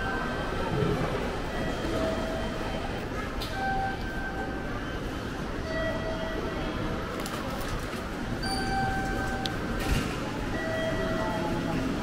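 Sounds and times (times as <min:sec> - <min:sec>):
station crowd bustle: 0:00.0 - 0:12.0.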